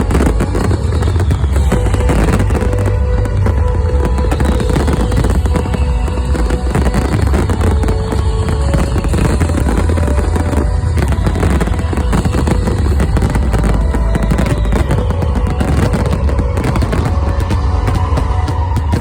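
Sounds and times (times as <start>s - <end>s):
deep rumble: 0.0s - 19.0s
fireworks bangs and crackling: 0.0s - 19.0s.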